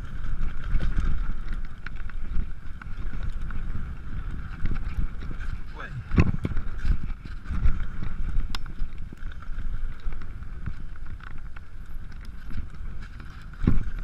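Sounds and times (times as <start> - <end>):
bike rattling and clicking: 0.0 - 14.0
bike tyres rumbling on dirt: 0.0 - 14.0
wind buffeting microphone: 0.0 - 14.0.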